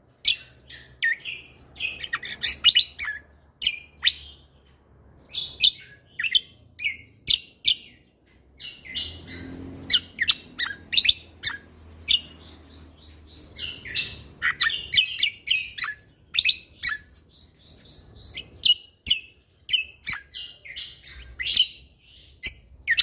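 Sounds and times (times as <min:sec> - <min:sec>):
bird singing high chirps: 0:00.0 - 0:23.0.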